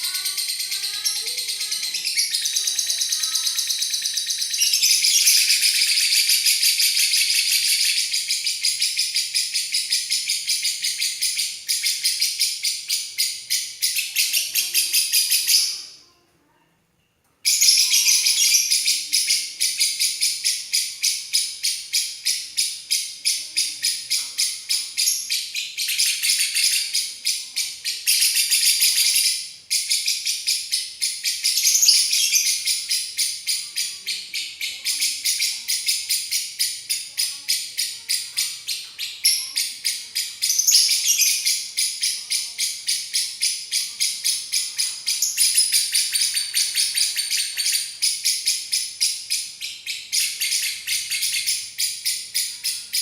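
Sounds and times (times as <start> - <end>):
lovebird chattering trills: 0.0 - 15.9, 17.5 - 53.0.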